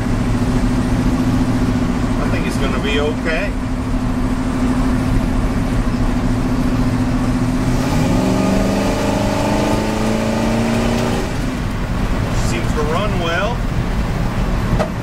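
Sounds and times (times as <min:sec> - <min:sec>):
road noise: 0:00.0 - 0:15.0
truck engine: 0:00.0 - 0:15.0.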